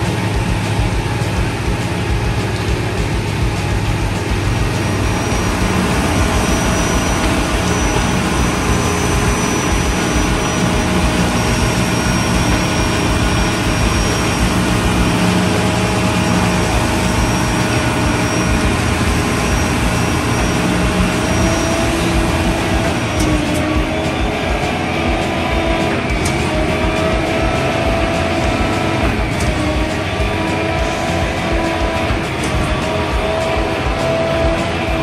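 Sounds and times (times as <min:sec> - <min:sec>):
concrete mixer truck engine drone: 0:00.0 - 0:35.0
thin steady whine: 0:00.0 - 0:35.0.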